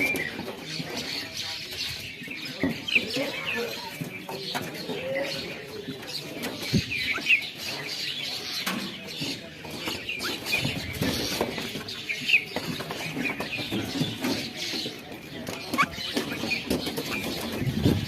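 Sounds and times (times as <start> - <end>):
flock of birds chirping: 0.0 - 18.0.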